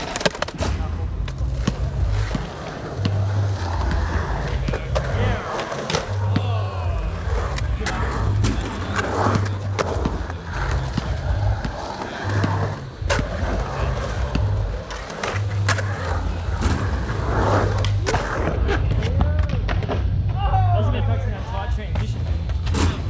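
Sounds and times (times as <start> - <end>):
skateboard wheels rolling on concrete: 0.0 - 20.4.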